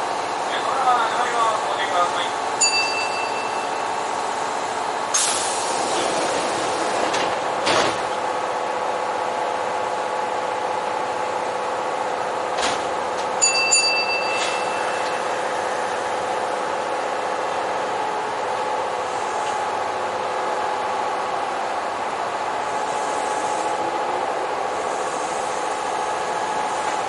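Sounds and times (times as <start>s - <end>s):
electric train hum: 0.0s - 27.0s.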